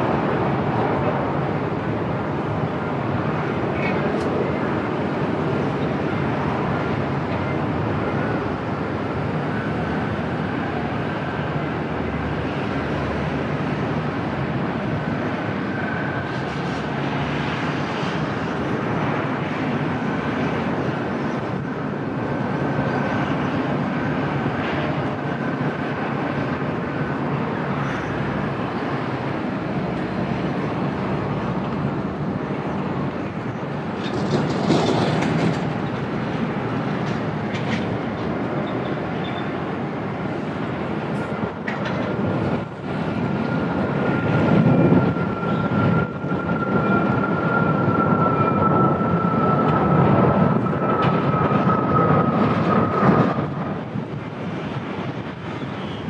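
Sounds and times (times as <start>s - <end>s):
jet engine noise: 0.0s - 56.0s
low wind rumble: 0.0s - 56.0s.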